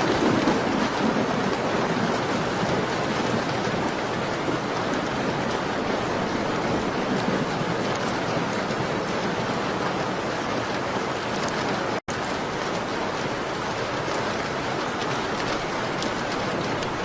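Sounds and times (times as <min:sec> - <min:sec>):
rain on window pane: 0:00.0 - 0:17.0.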